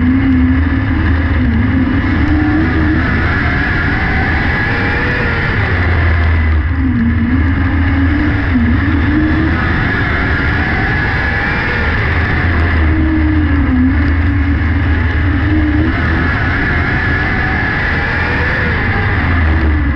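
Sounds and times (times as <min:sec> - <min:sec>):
race car engine running hard: 0:00.0 - 0:19.9.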